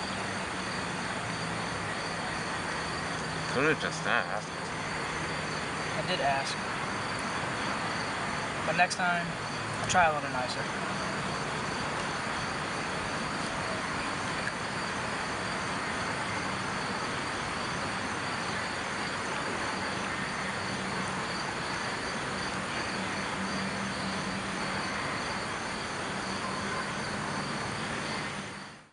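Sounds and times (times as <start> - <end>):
continuous even rush: 0.0 - 28.9
insect chirring: 0.0 - 28.9.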